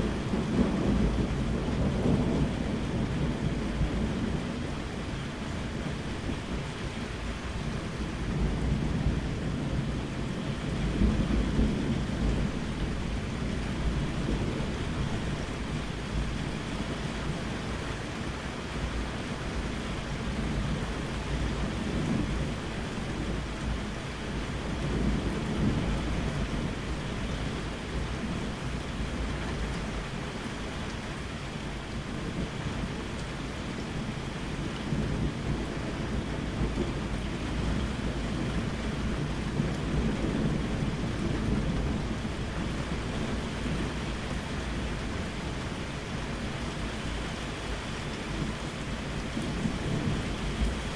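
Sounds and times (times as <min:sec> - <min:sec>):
rolling thunder: 0:00.0 - 0:17.8, 0:19.5 - 0:30.2, 0:33.8 - 0:50.9
steady rain: 0:00.0 - 0:50.9.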